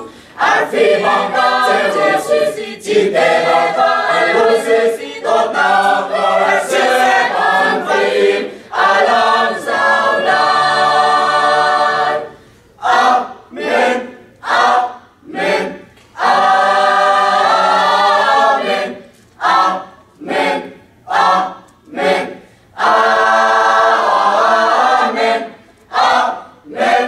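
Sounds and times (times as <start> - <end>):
mixed choir singing unaccompanied: 0.0 - 27.0.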